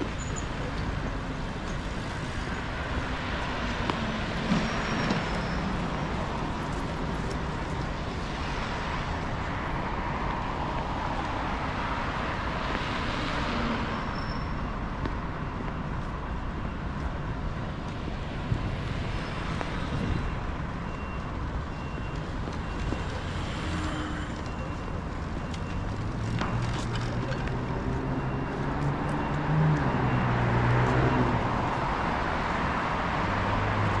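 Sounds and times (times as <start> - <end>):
traffic rumble: 0.0 - 34.0
vehicles passing: 0.0 - 34.0.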